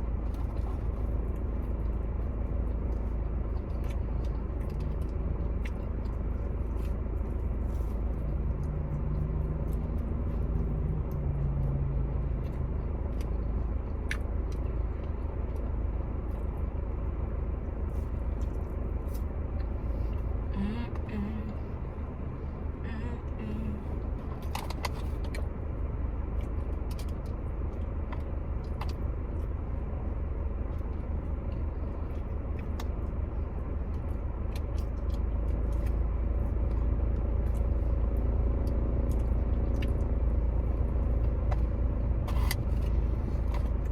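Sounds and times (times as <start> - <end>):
car interior rumble: 0.0 - 43.9
small clicks of eating: 0.1 - 21.7, 23.4 - 30.0, 30.6 - 43.9.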